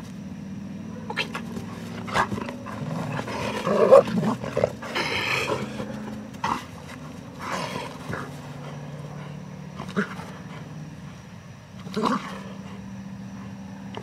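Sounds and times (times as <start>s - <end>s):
dog growling: 0.9s - 11.2s, 11.8s - 13.0s.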